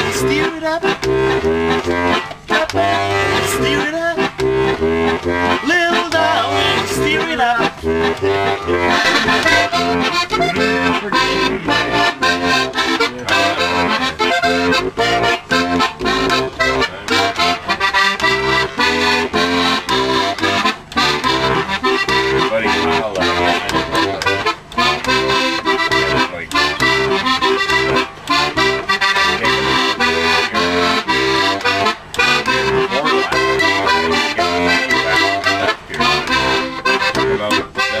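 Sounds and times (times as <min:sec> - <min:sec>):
accordion playing a tune: 0:00.0 - 0:38.0.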